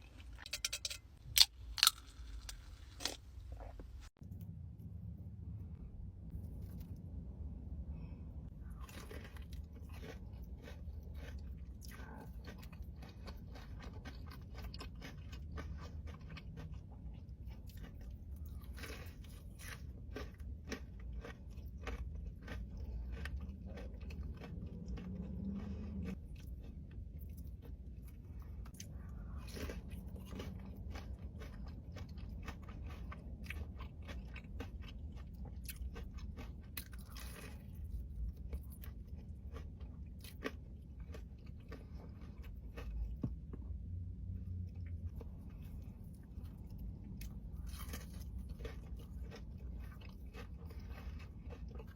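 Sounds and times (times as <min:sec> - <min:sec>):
low hum: 0:00.0 - 0:51.9
chewing crisp food: 0:08.5 - 0:51.9.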